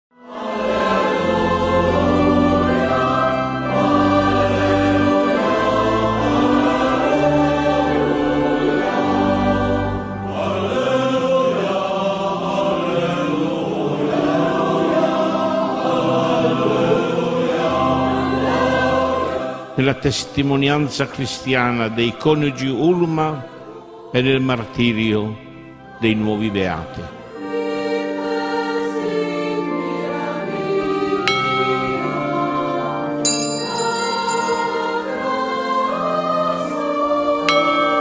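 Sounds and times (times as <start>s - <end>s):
choir singing sacred music: 0.1s - 38.0s.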